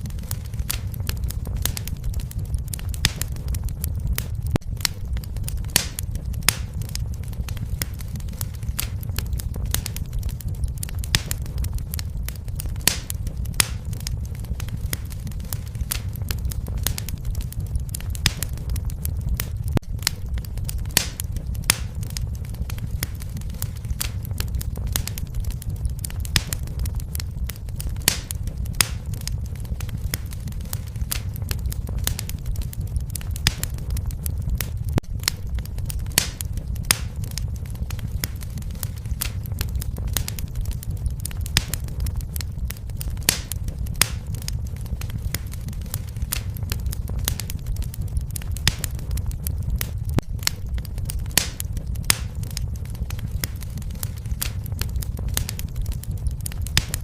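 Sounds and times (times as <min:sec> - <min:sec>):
fire crackling and popping: 0:00.0 - 0:57.0
low rumble: 0:00.0 - 0:57.0.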